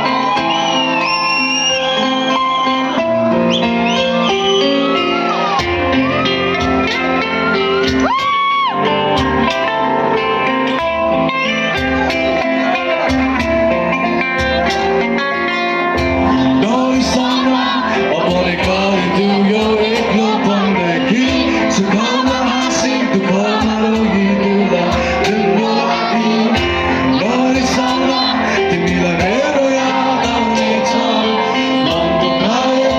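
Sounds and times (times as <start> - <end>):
live band with guitar: 0.0 - 32.9
person singing: 4.7 - 32.9.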